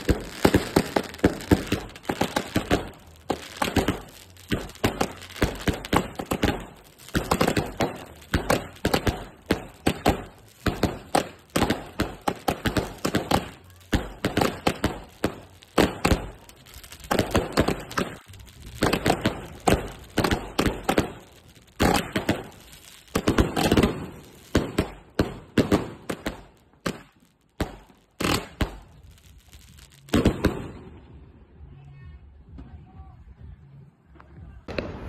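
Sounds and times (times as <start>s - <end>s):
fireworks bangs and cracks: 0.0s - 31.3s, 34.4s - 35.0s.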